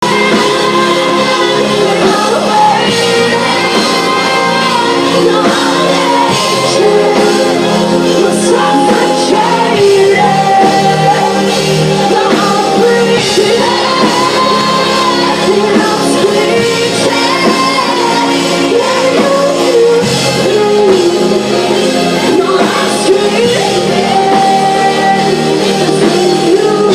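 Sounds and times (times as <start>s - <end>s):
lead singer: 0.0s - 26.9s
live rock band: 0.0s - 26.9s.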